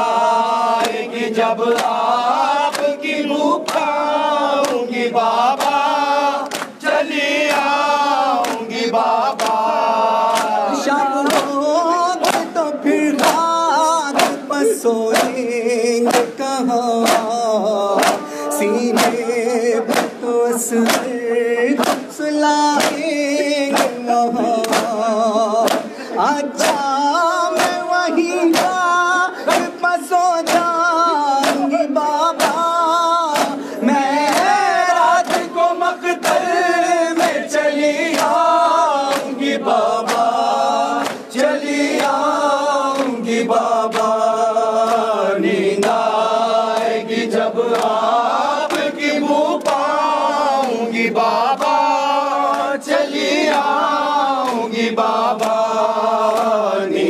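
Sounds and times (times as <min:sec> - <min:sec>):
men chanting together: 0:00.0 - 0:57.0
hands slapping chests: 0:00.4 - 0:57.0.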